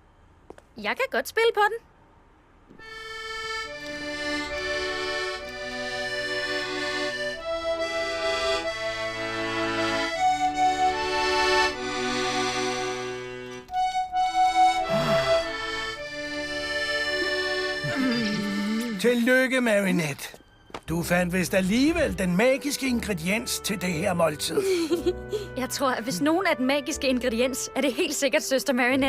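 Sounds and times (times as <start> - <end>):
accordion playing a tune: 2.8 - 29.0.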